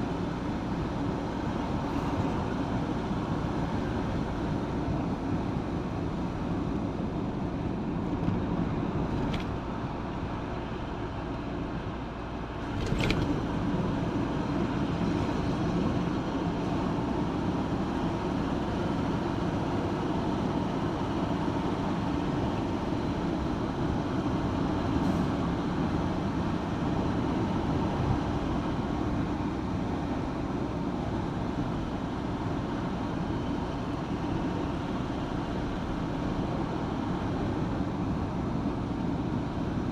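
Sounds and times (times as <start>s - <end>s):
vehicle engine and tyre noise: 0.0s - 39.9s.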